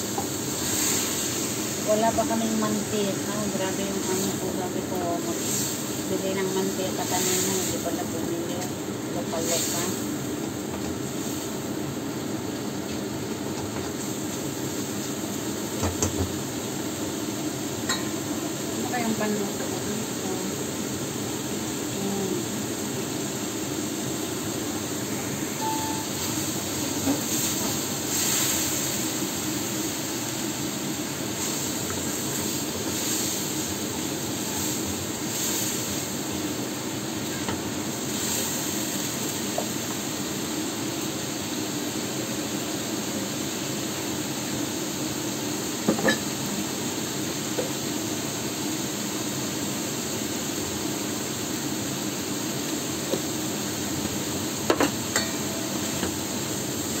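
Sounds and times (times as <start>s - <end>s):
meat sizzling in a wok: 0.0s - 57.0s.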